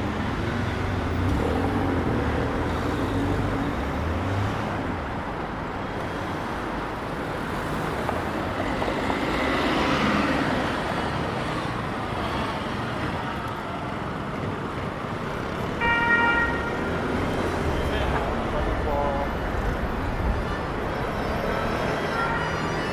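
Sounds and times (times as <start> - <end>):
city street traffic: 0.0 - 22.9.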